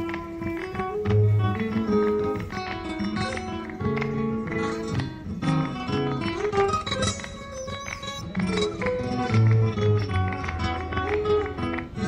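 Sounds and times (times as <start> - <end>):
flamenco acoustic guitar: 0.0 - 12.0.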